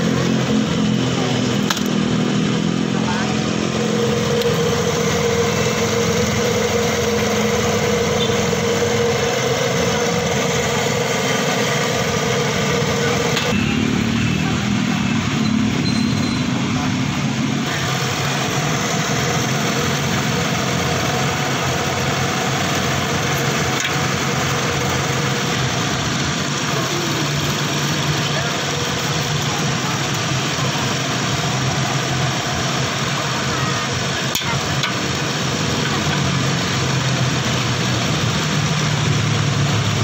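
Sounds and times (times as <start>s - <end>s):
cotton candy machine humming: 0.0s - 40.0s.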